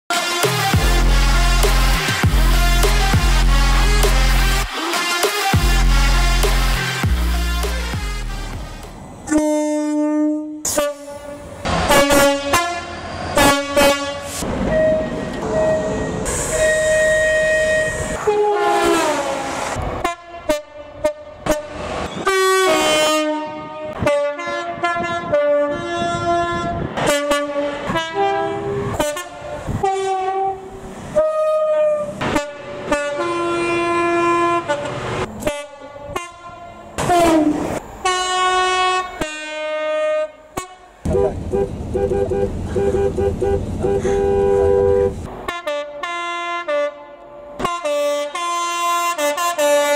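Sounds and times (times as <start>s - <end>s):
train horn blasts: 0.1s - 49.9s
passing train horn falling in pitch: 7.1s - 49.9s.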